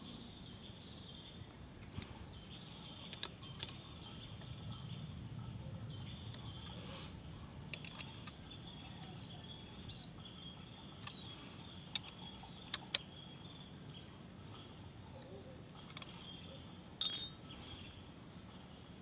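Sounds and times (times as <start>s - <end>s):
faint high hum: 0.0s - 19.0s.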